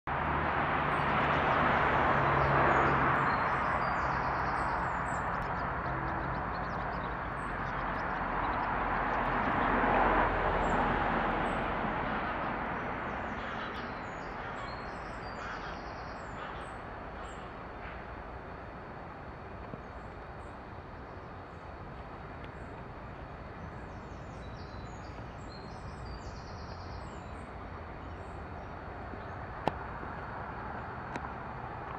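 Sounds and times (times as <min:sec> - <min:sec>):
distant vehicle passing: 0:00.1 - 0:31.9.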